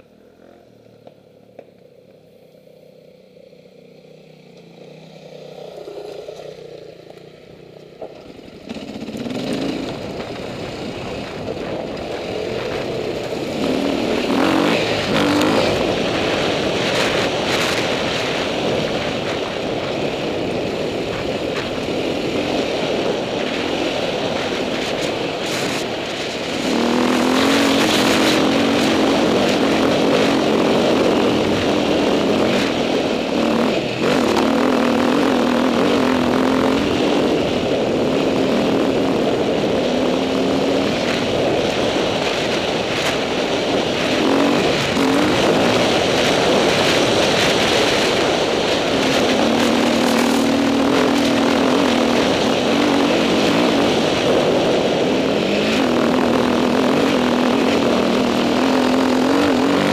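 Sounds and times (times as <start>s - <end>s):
steady rushing noise: 4.1s - 59.9s
dirt bike engine revving: 8.3s - 59.9s.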